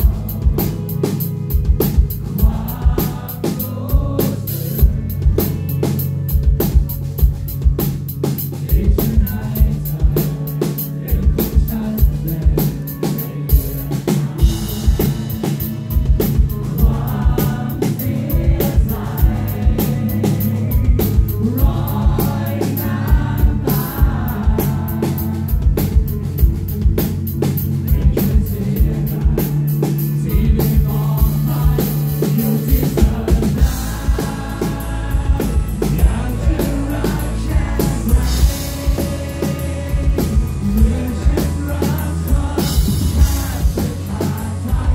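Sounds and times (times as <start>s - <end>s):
drum kit beat: 0.0s - 44.9s
live rock band: 0.0s - 44.9s
person singing: 2.0s - 6.0s, 8.4s - 26.1s, 27.9s - 44.9s.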